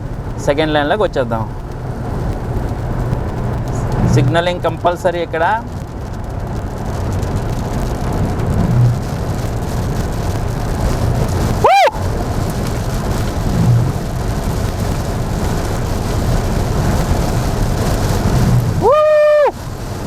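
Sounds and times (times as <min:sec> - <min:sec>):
heavy rain on a car: 0:00.0 - 0:20.0
tyre noise on wet road: 0:00.0 - 0:20.0.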